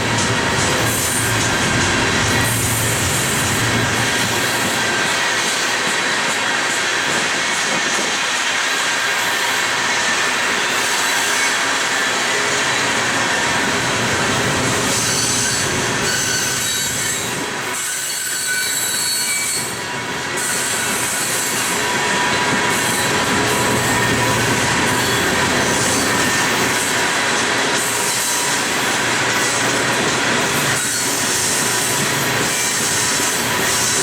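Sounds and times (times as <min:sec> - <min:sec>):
train rumbling: 0:00.0 - 0:34.0
train wheels squealing on rails: 0:00.0 - 0:34.0.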